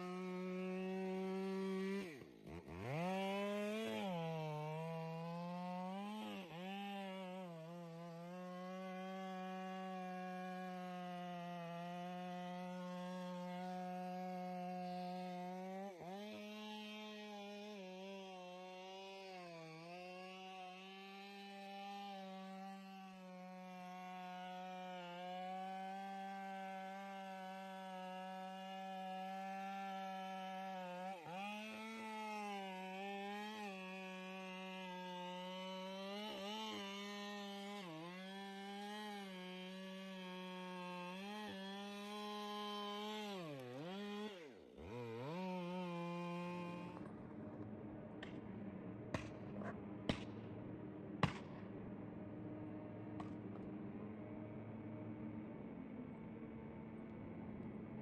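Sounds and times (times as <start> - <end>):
chainsaw cutting at high revs: 0.0 - 55.5.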